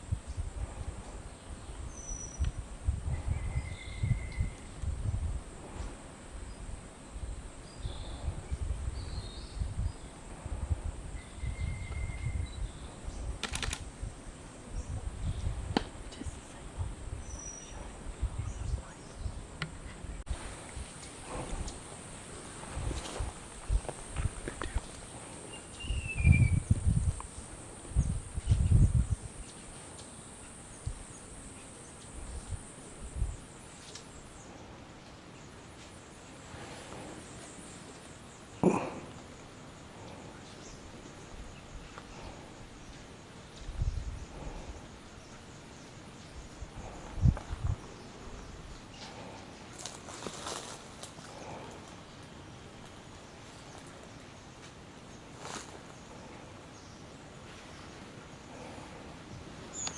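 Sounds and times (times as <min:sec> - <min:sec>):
forest birds calling: 0:00.0 - 0:59.9.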